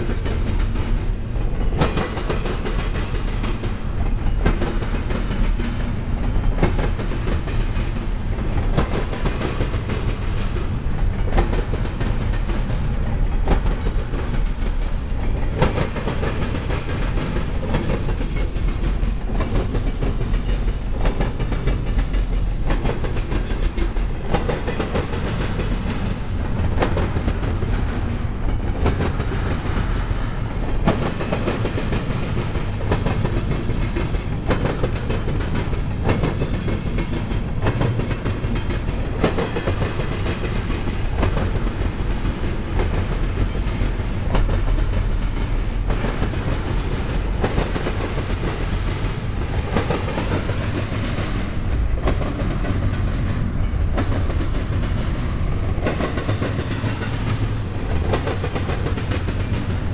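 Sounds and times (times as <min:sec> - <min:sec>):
train wheels rumbling: 0:00.0 - 0:59.9
wheels clacking over track: 0:00.0 - 0:59.9.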